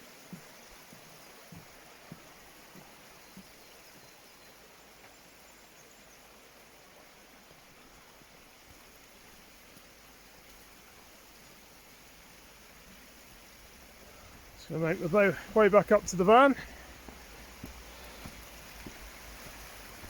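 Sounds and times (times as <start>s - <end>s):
flowing water: 0.0s - 20.0s.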